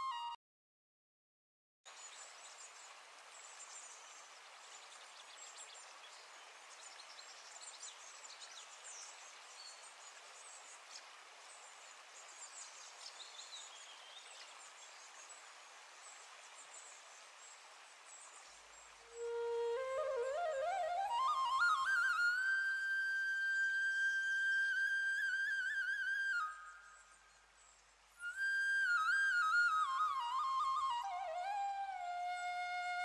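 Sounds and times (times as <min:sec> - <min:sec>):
soft steady hiss: 0:01.9 - 0:33.0.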